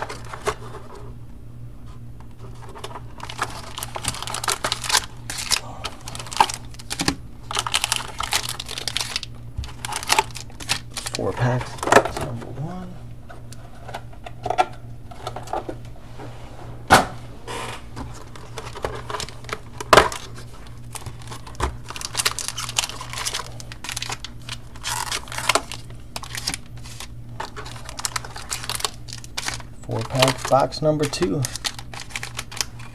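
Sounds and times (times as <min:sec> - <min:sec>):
card packs rustling and tapping: 0:00.0 - 0:01.1, 0:02.3 - 0:15.9, 0:16.9 - 0:32.9
steady low hum: 0:00.0 - 0:32.9.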